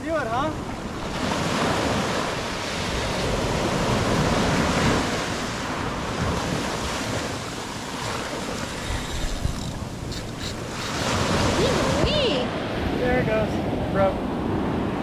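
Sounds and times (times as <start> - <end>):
ocean surf breaking on beach: 0.0 - 15.0
wind buffeting microphone: 0.0 - 15.0.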